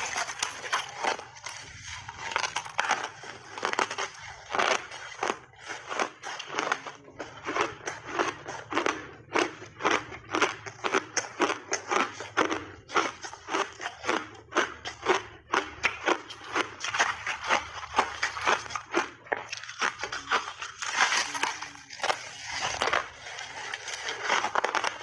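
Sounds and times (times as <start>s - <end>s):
ice being chewed: 0.0s - 25.0s.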